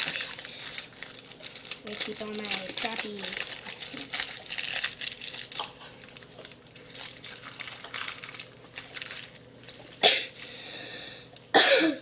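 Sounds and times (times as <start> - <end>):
paper receipts rustling: 0.0 - 10.5.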